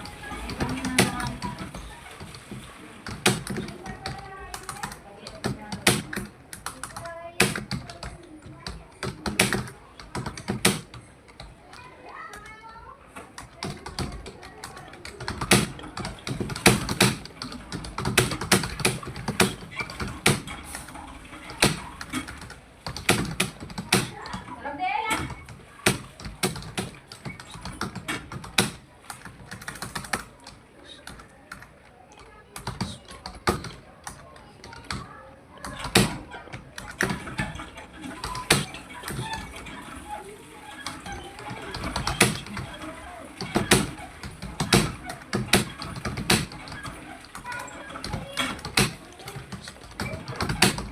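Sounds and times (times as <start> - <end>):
computer keyboard typing: 0.0 - 12.6, 13.3 - 50.9.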